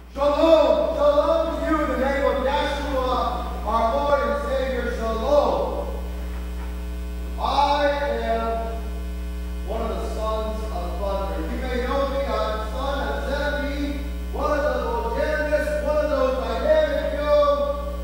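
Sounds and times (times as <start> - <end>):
electrical mains hum: 0.0 - 18.0
man chanting: 0.1 - 6.0, 7.4 - 8.8, 9.7 - 18.0.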